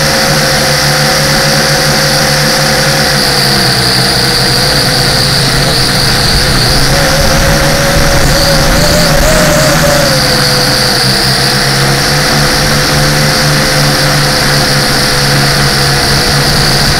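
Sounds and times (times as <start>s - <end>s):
model aircraft motor and propeller: 0.0s - 16.9s.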